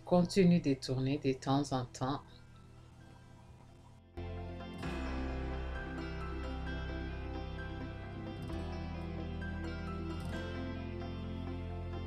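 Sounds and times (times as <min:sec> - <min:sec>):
music with sustained notes: 0:02.2 - 0:12.0.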